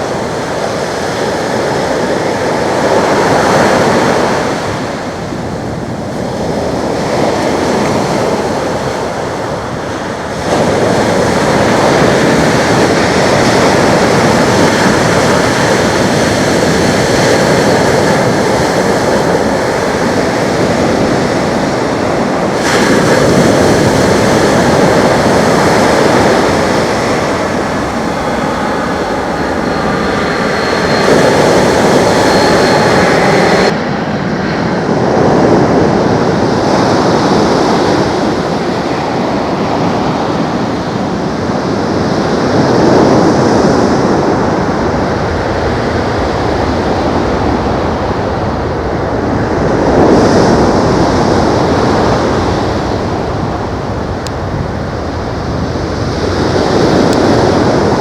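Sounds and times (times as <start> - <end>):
loud jet engine noise: 0.0 - 58.0.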